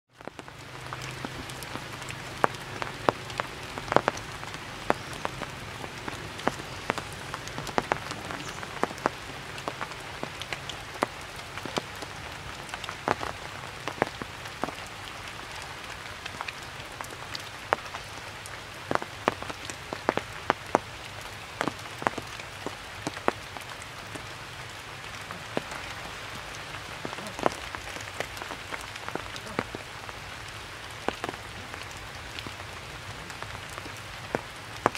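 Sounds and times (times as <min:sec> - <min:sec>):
rain falling through trees: 0:00.1 - 0:34.9
raindrops clicking close by: 0:00.1 - 0:34.9.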